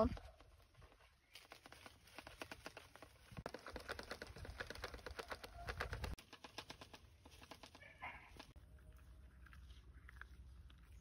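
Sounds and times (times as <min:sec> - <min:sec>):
leaves and twigs rustling: 0:00.0 - 0:11.0.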